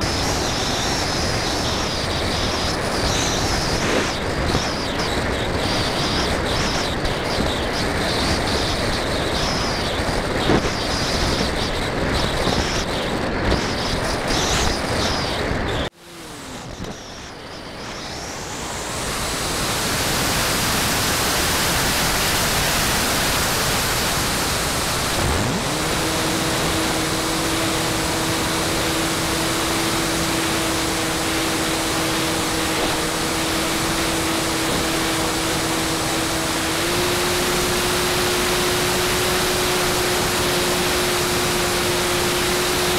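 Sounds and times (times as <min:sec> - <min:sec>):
propeller motor whine: 0:00.0 - 0:42.9.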